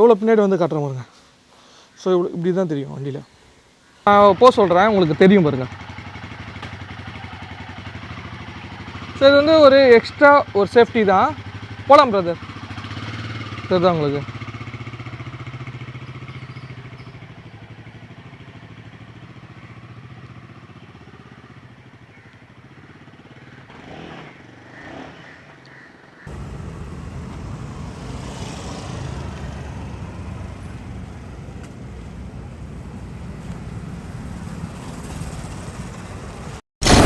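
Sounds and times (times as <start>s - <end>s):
road noise: 3.6s - 37.0s
motorcycle engine running: 4.1s - 25.4s, 26.3s - 37.0s.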